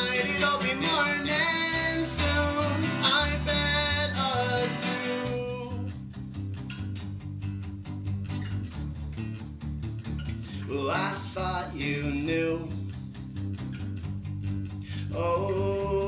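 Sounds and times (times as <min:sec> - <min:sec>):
acoustic guitar strumming: 0:00.0 - 0:09.5, 0:10.2 - 0:16.0
electric bass line: 0:00.0 - 0:16.0.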